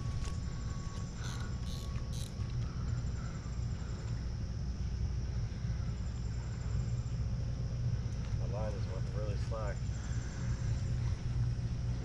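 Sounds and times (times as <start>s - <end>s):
insects trilling: 0.0s - 12.0s
steady low rumble: 0.0s - 12.0s.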